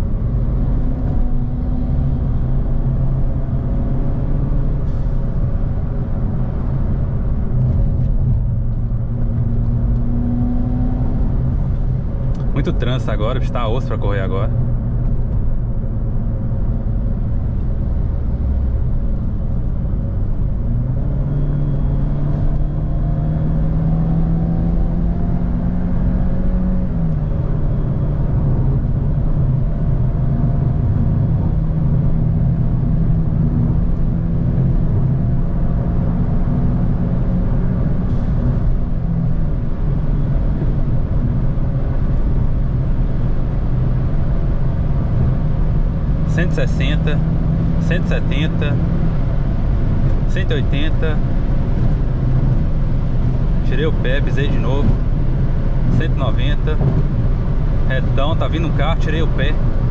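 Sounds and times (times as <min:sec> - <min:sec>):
car engine accelerating hard: 0:00.0 - 0:59.9
road and tyre rumble: 0:00.0 - 0:59.9.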